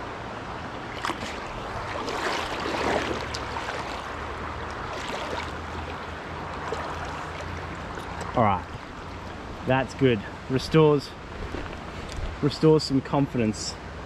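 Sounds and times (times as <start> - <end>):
stream flowing over a riffle: 0.0 - 13.0.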